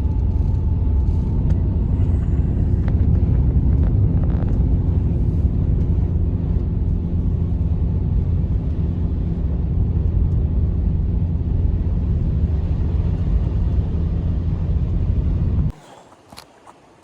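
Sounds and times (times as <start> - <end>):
wind buffeting microphone: 0.0 - 15.7.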